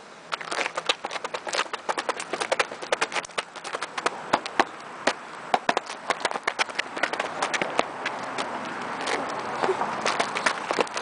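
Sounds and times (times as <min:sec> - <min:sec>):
sneakers crunching on gravel: 0:00.3 - 0:11.0.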